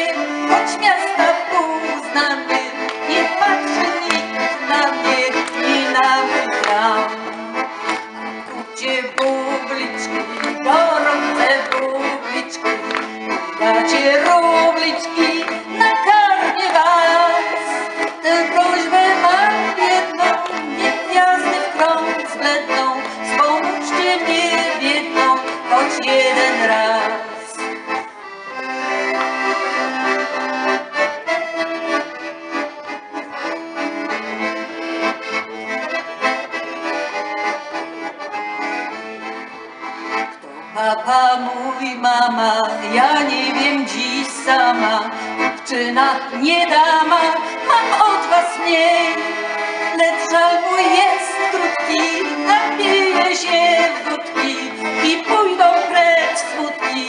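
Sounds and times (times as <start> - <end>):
accordion melody: 0.0 - 57.0.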